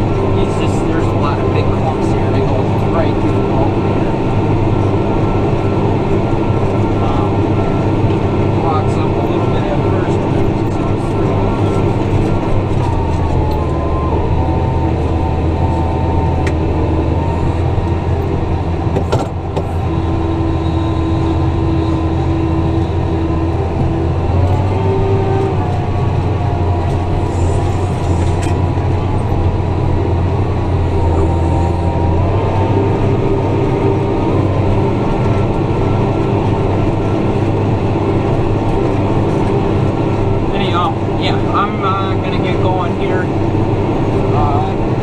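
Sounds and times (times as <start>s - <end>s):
tractor engine under load: 0.0s - 45.0s.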